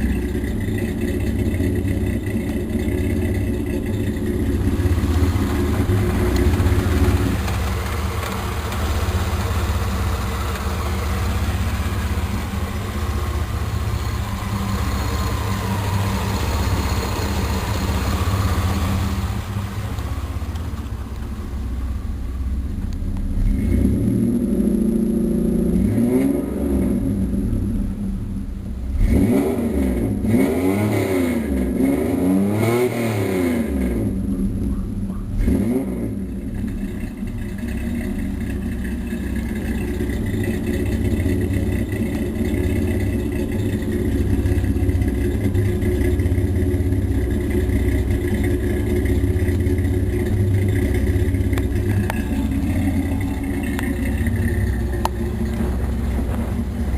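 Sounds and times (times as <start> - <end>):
engine revving: 0.0 - 22.2, 23.2 - 28.0, 28.9 - 34.3, 35.4 - 56.9
car engine idling: 0.0 - 31.8, 33.6 - 56.9.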